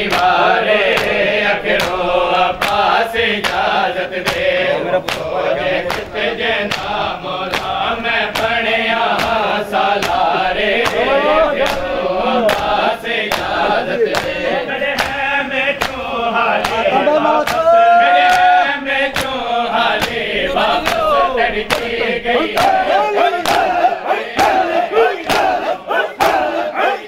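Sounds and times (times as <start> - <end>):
hands slapping chests: 0.0 - 27.0
men chanting: 0.0 - 27.0.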